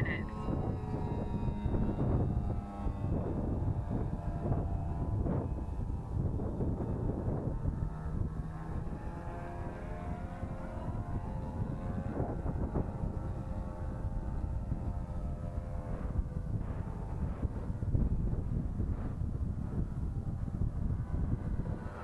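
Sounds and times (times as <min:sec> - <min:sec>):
model airplane engine whining: 0:00.0 - 0:22.0
wind noise on microphone: 0:00.0 - 0:22.0.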